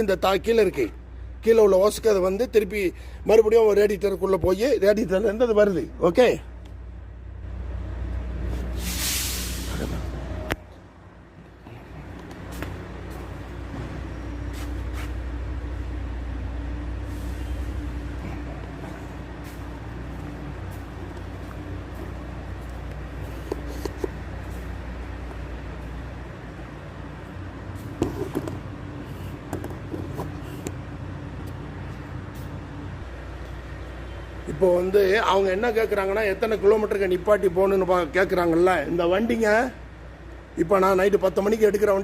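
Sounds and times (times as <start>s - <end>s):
large vehicle engine idling: 6.3s - 40.6s.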